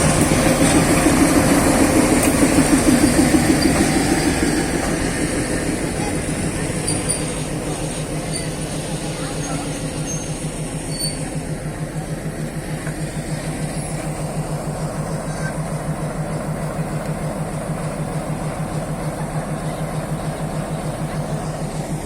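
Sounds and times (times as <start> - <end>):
diesel locomotive idling: 0.0 - 22.0.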